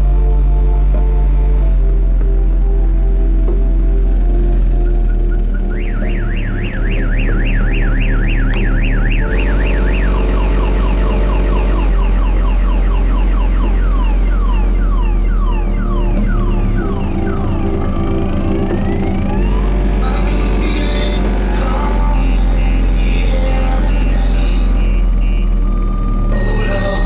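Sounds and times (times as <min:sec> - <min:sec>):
subwoofer bass from car stereo: 0:00.0 - 0:27.0
car alarm: 0:04.8 - 0:27.0.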